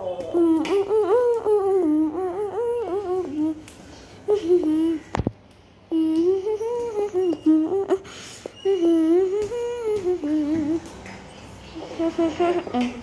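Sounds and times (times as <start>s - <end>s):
girl humming a tune: 0.0s - 5.2s, 5.9s - 11.0s, 11.8s - 13.0s.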